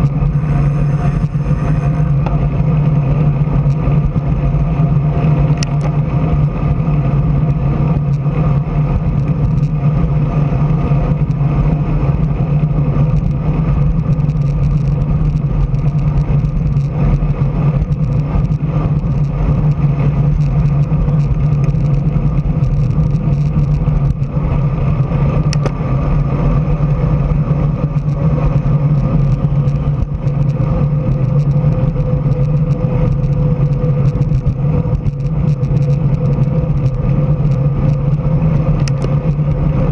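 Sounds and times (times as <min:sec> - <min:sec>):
bicycle tyre noise on asphalt: 0:00.0 - 0:39.9.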